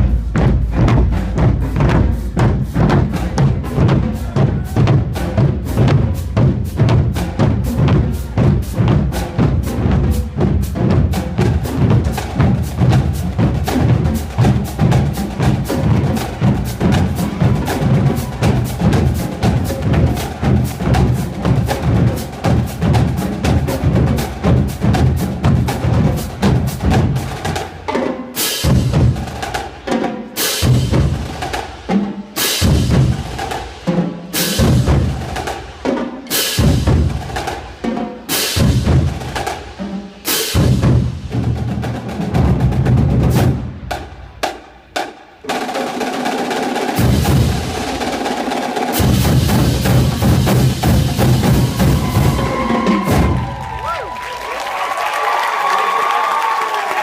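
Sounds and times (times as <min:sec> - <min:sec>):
bass drum notes: 0:00.0 - 0:28.0, 0:28.6 - 0:30.0, 0:30.6 - 0:45.0, 0:47.0 - 0:48.1, 0:49.0 - 0:54.0
marching drumline playing: 0:00.0 - 0:57.0.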